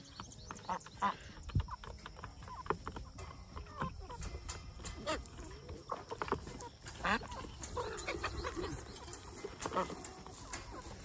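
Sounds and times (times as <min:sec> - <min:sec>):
farm animals calling: 0:00.0 - 0:11.0.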